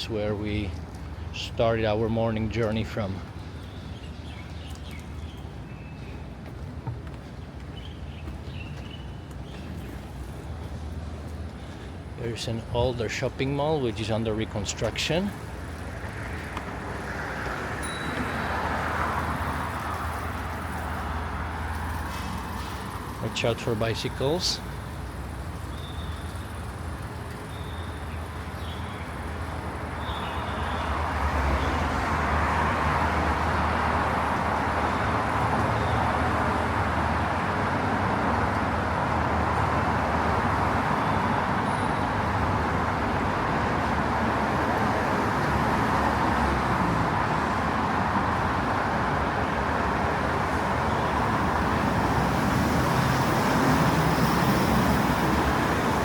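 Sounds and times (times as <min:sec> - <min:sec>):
cars passing: 0:00.0 - 0:56.0
low traffic rumble: 0:00.0 - 0:56.0.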